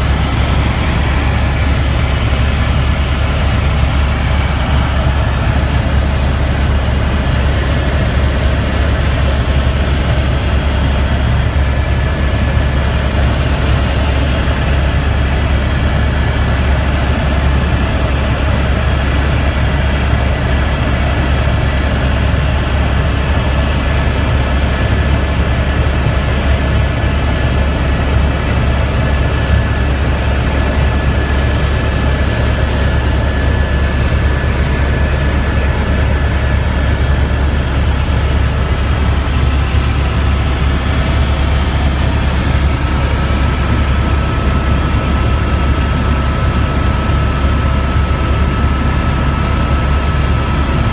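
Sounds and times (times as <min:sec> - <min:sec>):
helicopter rotor and engine rumble: 0:00.0 - 0:50.9.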